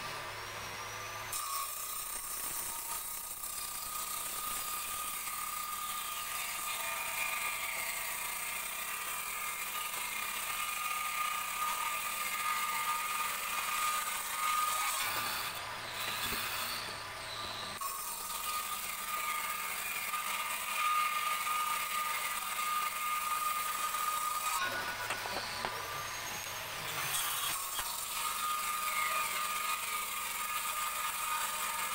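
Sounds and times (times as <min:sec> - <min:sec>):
table saw cutting wood: 0:00.0 - 0:31.9.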